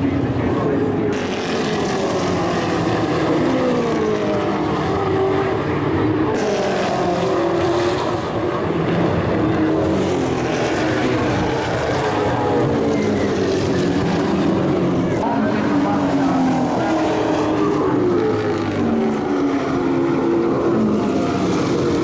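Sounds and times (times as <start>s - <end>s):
race car engines passing: 0.0s - 22.0s.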